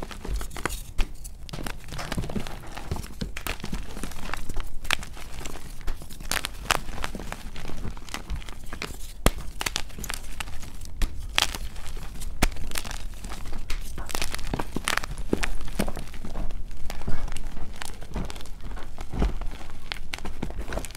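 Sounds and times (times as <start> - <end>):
chalk blocks crunching and cracking: 0.0 - 20.9.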